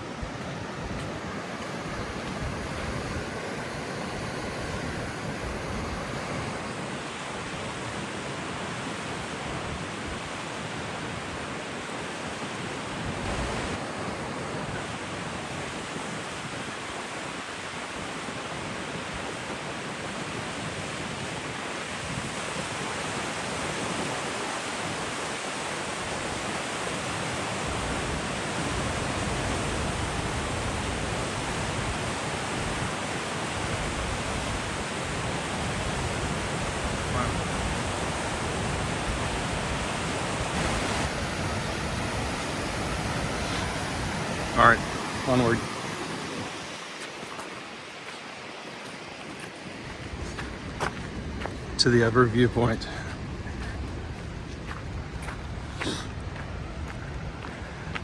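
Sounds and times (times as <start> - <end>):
waterfall rushing: 0.0 - 17.8, 22.5 - 52.1
wind gusting on microphone: 0.0 - 58.0.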